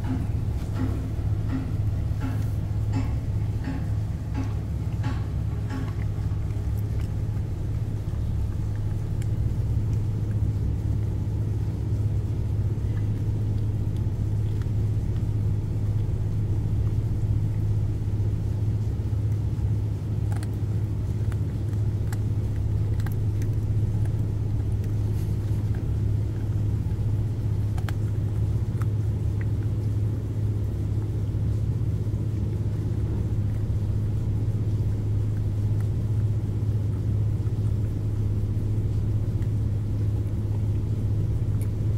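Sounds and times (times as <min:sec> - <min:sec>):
dog gnawing on a chew: 0:00.0 - 0:41.9.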